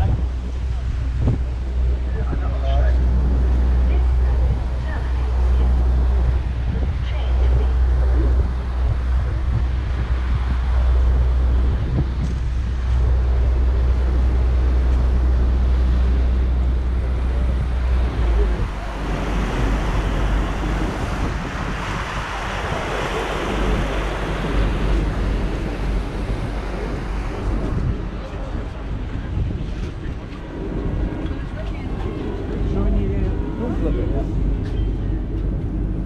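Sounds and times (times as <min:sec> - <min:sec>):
deep steady engine rumble: 0:00.0 - 0:36.0
water rushing past boat: 0:00.0 - 0:36.0
wind buffeting microphone: 0:00.0 - 0:36.0.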